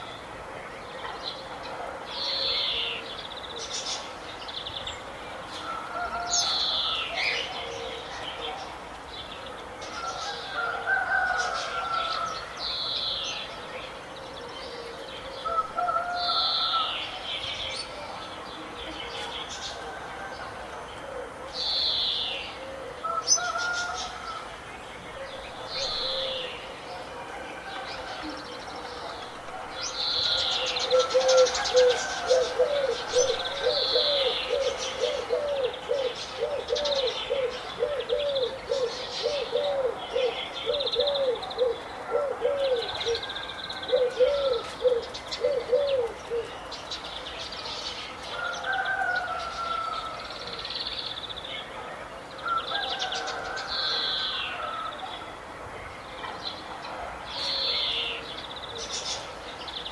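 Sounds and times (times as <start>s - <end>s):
birds chirping and trilling: 0.8s - 59.9s.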